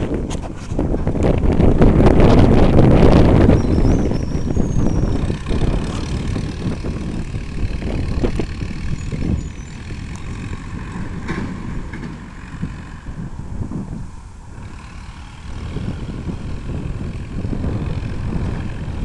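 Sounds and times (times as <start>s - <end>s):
diesel tractor engine rumbling: 0.0s - 19.0s.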